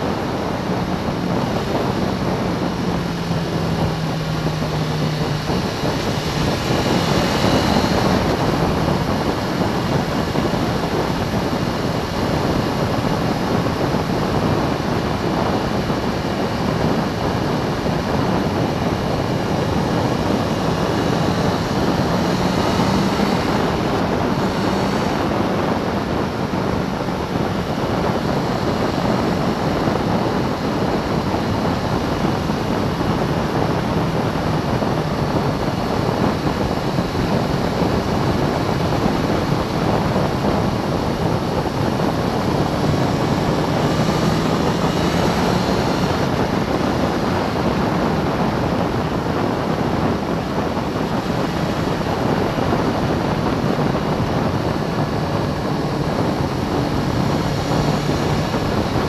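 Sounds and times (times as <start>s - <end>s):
motorcycle engine running: 0.0s - 59.0s
wind rushing: 0.0s - 59.0s.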